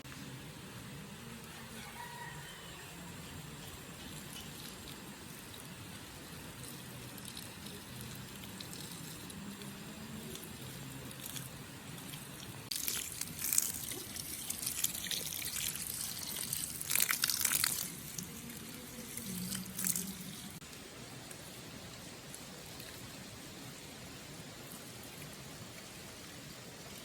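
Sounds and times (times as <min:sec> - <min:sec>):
steady background hiss: 0:00.0 - 0:27.0
water splashing and trickling: 0:02.0 - 0:27.0.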